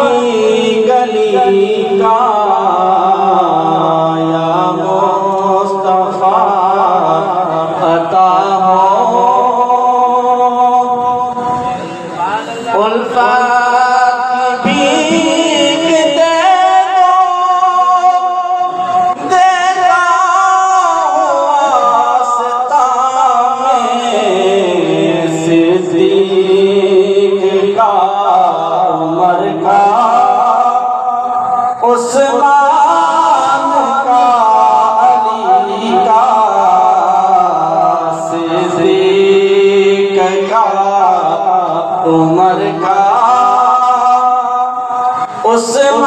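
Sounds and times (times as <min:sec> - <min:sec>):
man singing into a microphone: 0:00.0 - 0:46.0.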